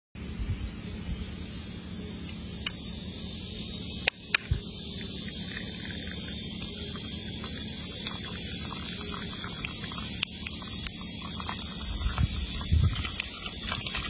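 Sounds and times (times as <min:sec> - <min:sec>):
water jet hissing: 0:02.7 - 0:14.0.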